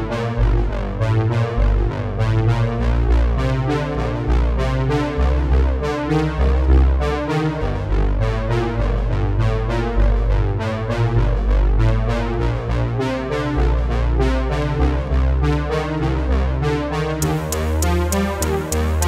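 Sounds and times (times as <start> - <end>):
synthesizer and keyboard music: 0.0 - 19.0.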